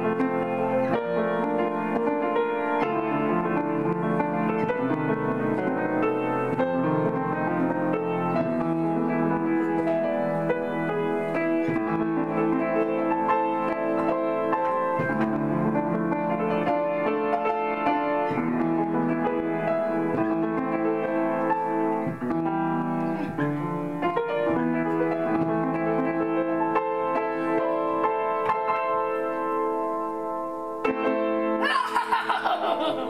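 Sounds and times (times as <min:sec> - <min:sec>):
piano playing: 0:00.0 - 0:33.0.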